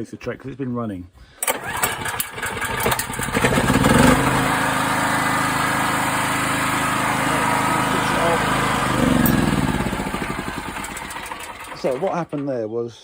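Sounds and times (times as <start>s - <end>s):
generator engine pull-started: 1.4s - 12.6s.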